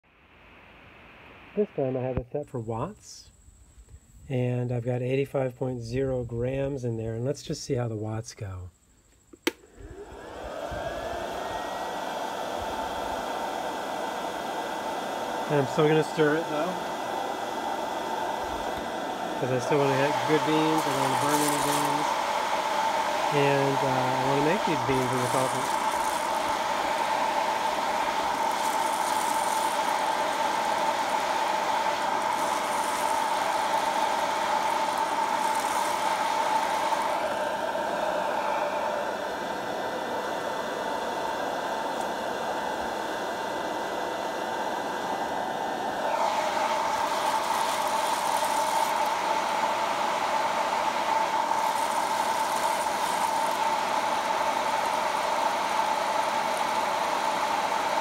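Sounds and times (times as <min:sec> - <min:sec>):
coffee roaster fan whining: 0:09.4 - 0:58.0.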